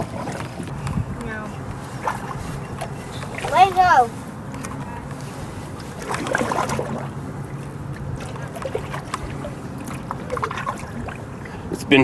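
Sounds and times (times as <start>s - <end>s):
paddle swishing through water: 0.0s - 11.9s.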